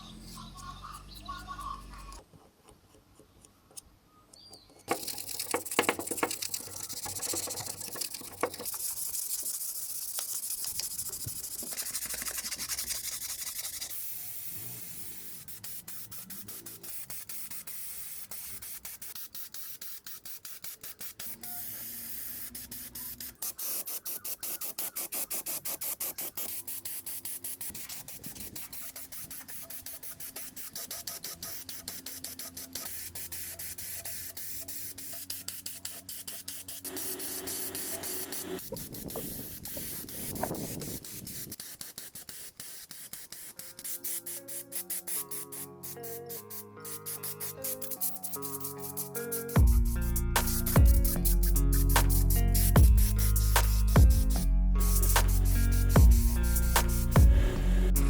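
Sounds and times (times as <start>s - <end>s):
paint spray hissing: 4.9s - 58.0s.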